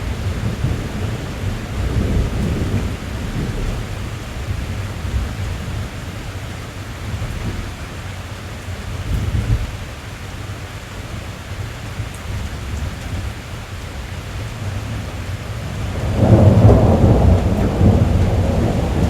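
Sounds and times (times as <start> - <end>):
rain drumming on car roof: 0.0 - 19.0.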